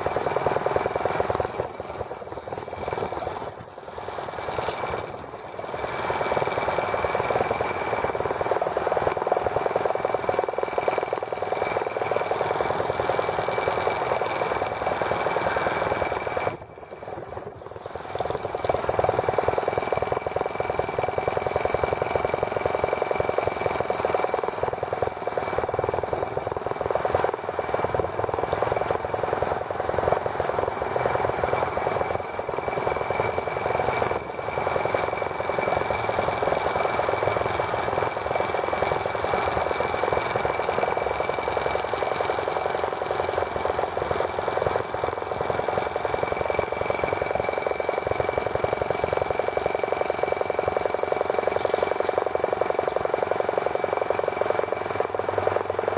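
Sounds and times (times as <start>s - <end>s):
small model engine running: 0.0s - 55.9s.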